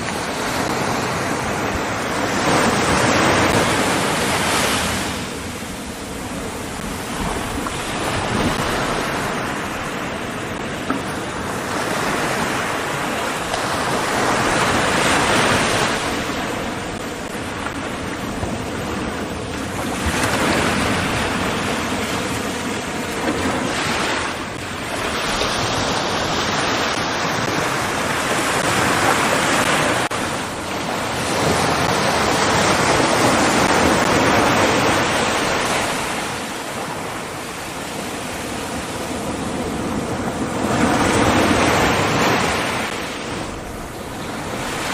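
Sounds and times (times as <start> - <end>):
ocean waves washing in: 0.0 - 44.9.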